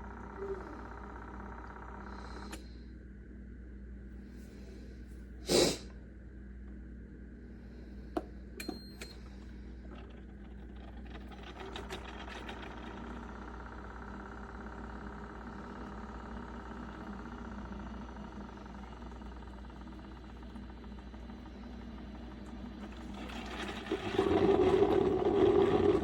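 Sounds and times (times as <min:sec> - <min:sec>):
machine hum: 0:00.0 - 0:05.4, 0:06.6 - 0:26.0.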